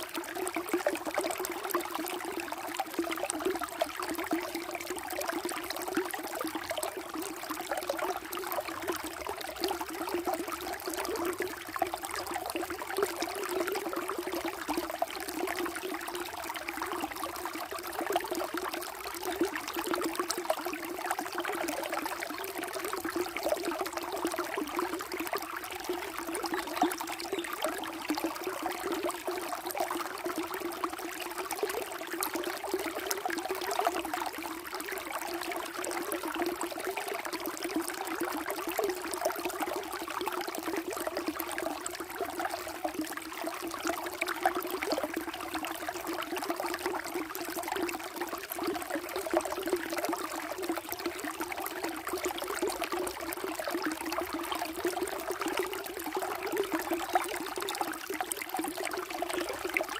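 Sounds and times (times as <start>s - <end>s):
water trickling and gurgling: 0.0s - 59.9s.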